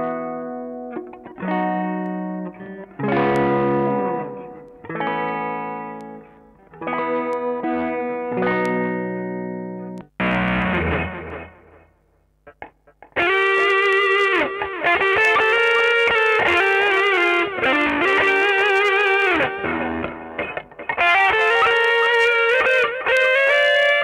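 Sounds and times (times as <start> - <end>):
electric guitar lead melody: 0.0 - 24.0.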